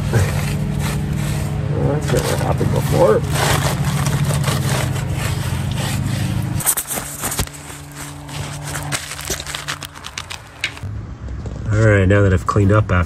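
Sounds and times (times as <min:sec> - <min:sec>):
steady low hum: 0:00.0 - 0:11.2
handling clicks and scrapes: 0:00.0 - 0:11.9.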